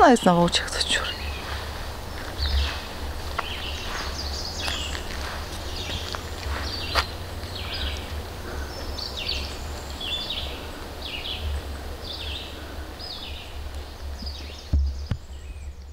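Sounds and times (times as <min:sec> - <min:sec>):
low steady rumble: 0:00.0 - 0:15.9
songbird singing: 0:00.0 - 0:15.9.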